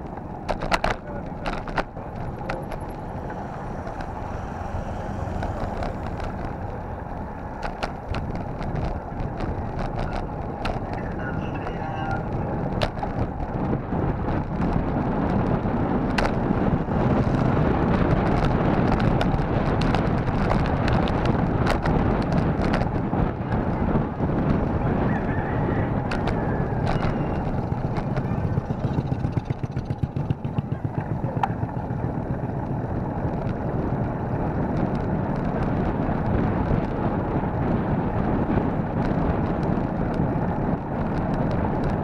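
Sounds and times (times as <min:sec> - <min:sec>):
bike clicking and knocking over bumps: 0:00.0 - 0:42.0
tyres humming on concrete road: 0:00.0 - 0:42.0
wind buffeting microphone: 0:00.0 - 0:42.0.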